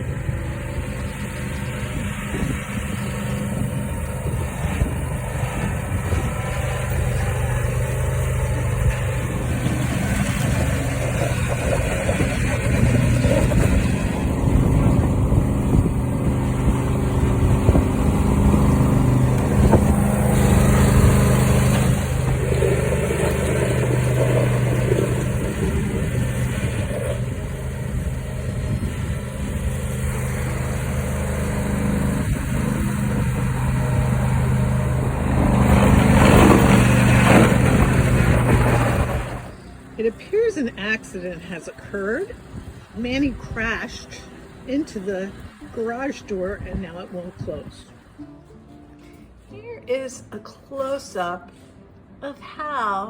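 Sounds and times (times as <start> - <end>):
truck engine running under load: 0.0 - 48.8.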